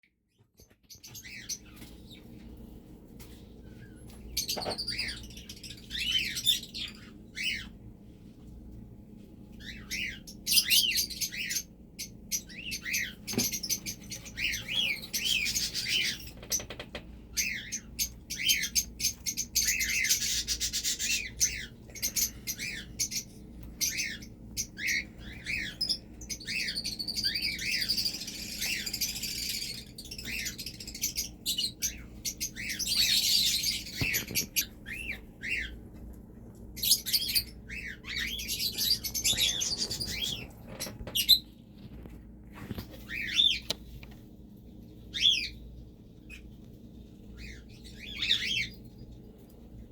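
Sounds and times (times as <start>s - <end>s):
small birds chirping: 0.0s - 8.6s, 9.4s - 49.9s.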